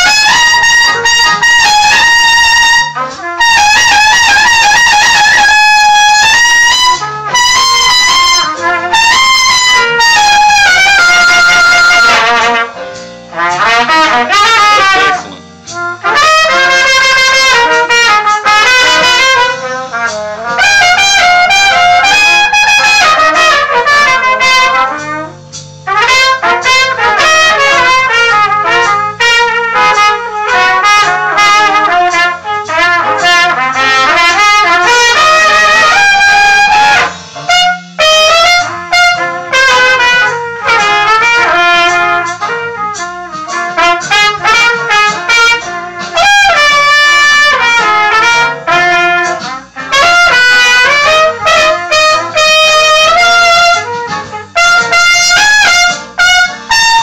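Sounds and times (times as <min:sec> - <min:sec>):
two trumpets playing duet: 0:00.0 - 0:57.0.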